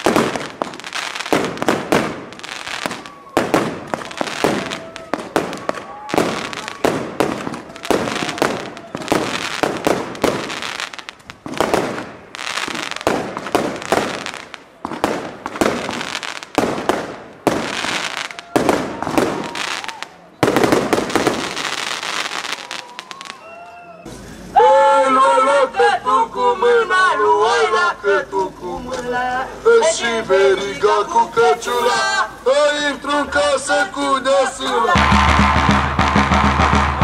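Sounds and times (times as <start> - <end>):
fireworks banging: 0.0 - 23.4, 30.8 - 37.0
fireworks crackling: 0.0 - 25.0, 28.2 - 37.0.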